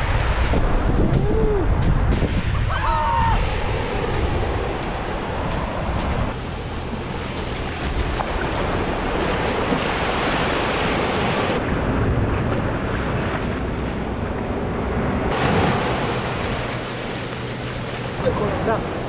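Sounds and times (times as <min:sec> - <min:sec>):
small waves washing on beach: 0:00.0 - 0:19.0
wind rumbling on microphone: 0:00.0 - 0:19.0.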